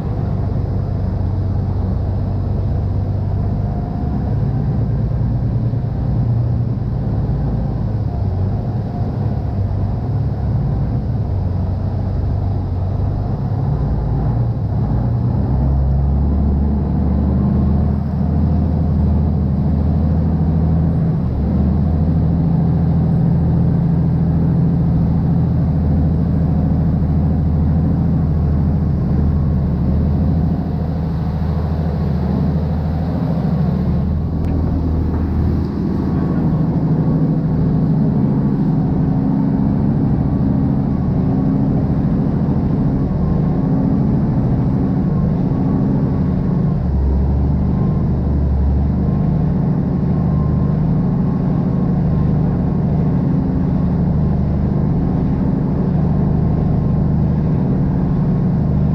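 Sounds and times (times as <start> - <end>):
boat engine rumbling: 0.0 - 58.9.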